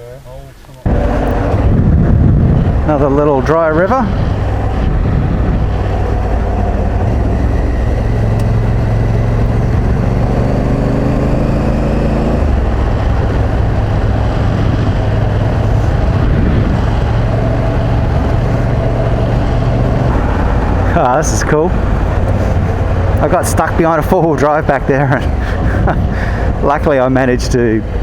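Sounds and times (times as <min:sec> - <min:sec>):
wind and road noise: 0:00.0 - 0:28.0
motorcycle engine accelerating: 0:00.9 - 0:26.6.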